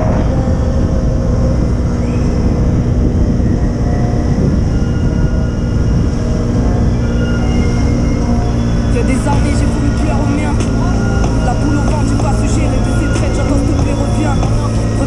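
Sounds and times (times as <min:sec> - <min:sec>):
motorcycle engine rumble: 0:00.0 - 0:15.0
wind noise on microphone: 0:00.0 - 0:15.0.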